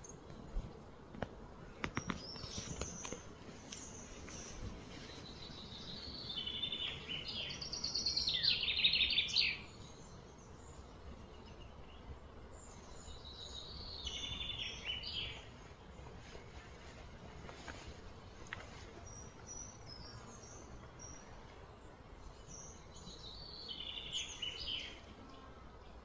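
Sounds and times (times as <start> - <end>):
low background noise: 0.0 - 26.0
songbird chirping: 1.6 - 26.0.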